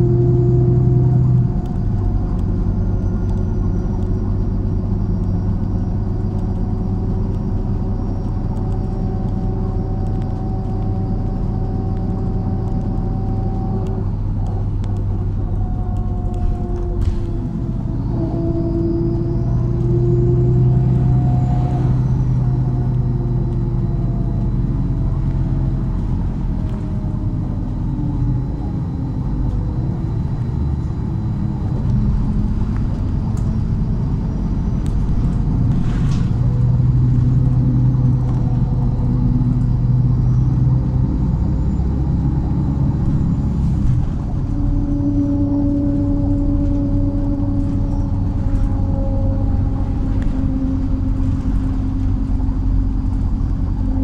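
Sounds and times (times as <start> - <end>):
bus engine drone: 0.0 - 54.0.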